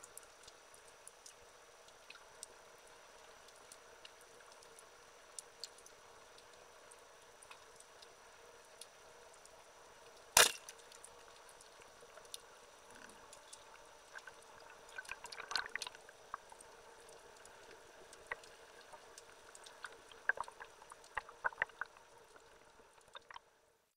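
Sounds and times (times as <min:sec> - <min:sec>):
faint underwater clicks and crackles: 0:00.0 - 0:23.9.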